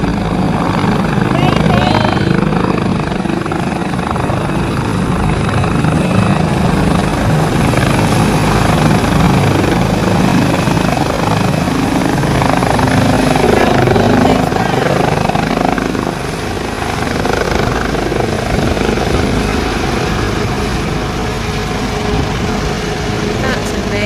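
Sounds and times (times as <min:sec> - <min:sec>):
helicopter lifting off: 0:00.0 - 0:24.0.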